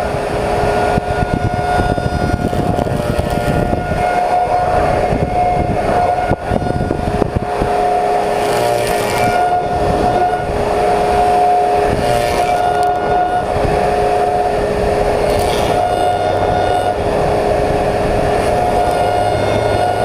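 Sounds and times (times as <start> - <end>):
planer cutter head whining: 0.0 - 20.0.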